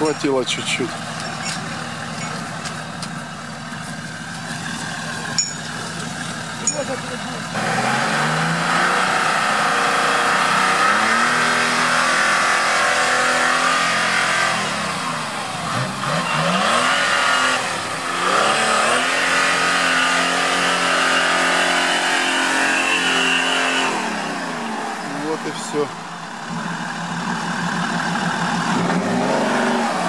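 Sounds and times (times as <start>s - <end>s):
buggy engine revving hard: 4.6s - 30.0s.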